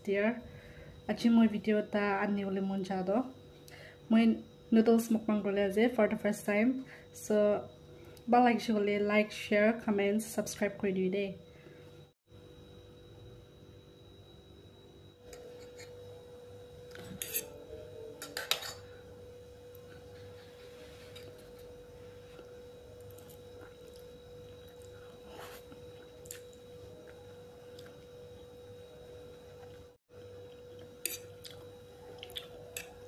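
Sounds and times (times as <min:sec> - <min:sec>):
steady high-pitched hum: 0:00.0 - 0:33.0.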